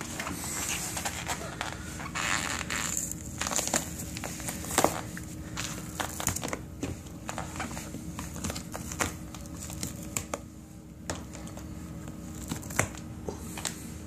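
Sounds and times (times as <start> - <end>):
sneaker crinkling and cracking: 0.0 - 13.8.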